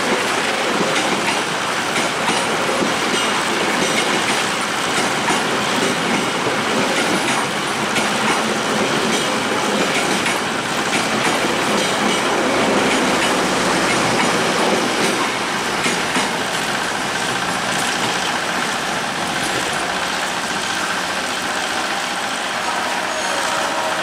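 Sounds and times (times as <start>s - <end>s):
wheels clacking over rail joints: 0.0s - 22.5s
train wheels rumbling on rail: 0.0s - 24.0s.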